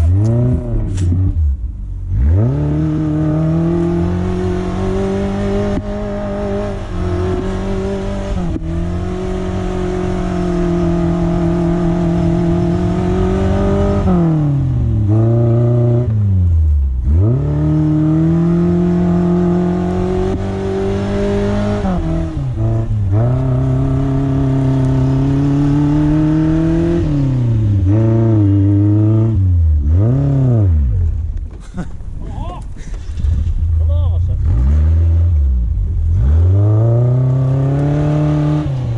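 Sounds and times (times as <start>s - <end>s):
car engine revving under load: 0.0s - 38.9s.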